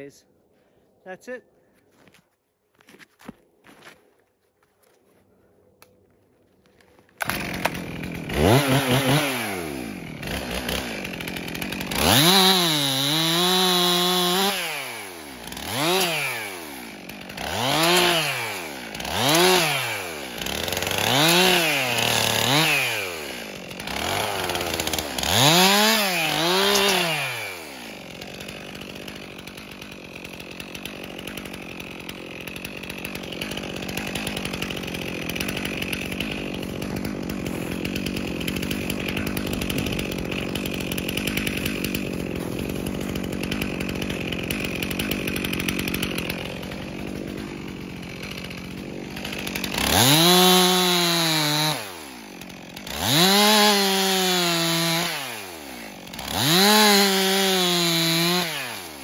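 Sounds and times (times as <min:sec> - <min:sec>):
chainsaw revving and idling: 0:06.6 - 0:59.0.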